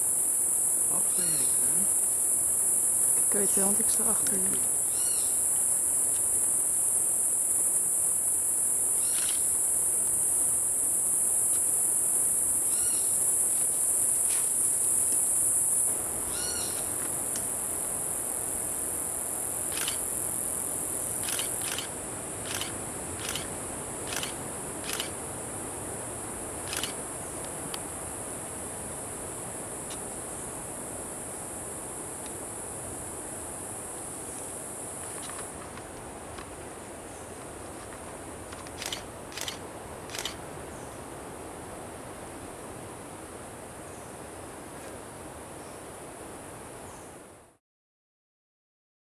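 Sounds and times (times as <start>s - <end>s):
insects droning: 0.0s - 47.6s.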